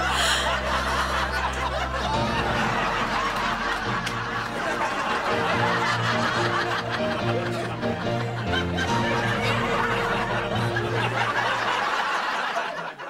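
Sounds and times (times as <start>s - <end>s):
light background music: 0.0s - 12.0s
woman laughing: 0.0s - 13.0s.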